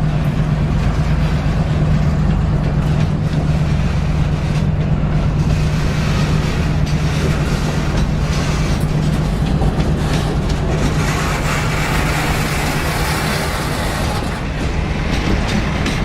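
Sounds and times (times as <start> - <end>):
constant low drone: 0.0 - 16.0
train wheels rumbling on rail: 0.0 - 16.0.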